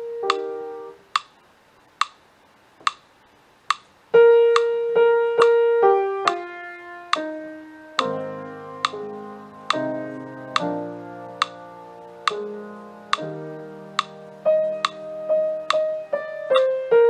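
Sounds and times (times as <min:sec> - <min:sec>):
piano playing: 0:00.0 - 0:01.0, 0:04.1 - 0:17.0
metronome clicks: 0:00.2 - 0:01.4, 0:02.0 - 0:02.2, 0:02.8 - 0:03.1, 0:03.7 - 0:03.9, 0:04.5 - 0:06.5, 0:07.1 - 0:16.9.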